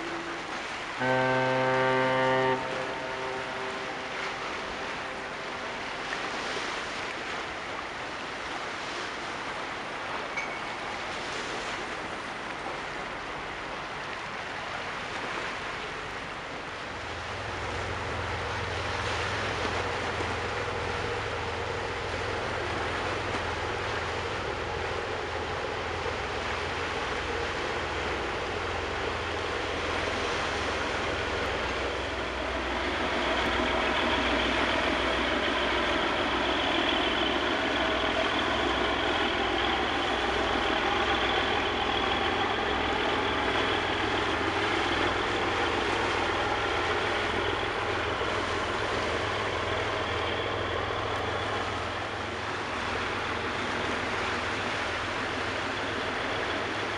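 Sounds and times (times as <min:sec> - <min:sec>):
low engine drone: 0:00.0 - 0:56.9
sea waves: 0:00.0 - 0:56.9.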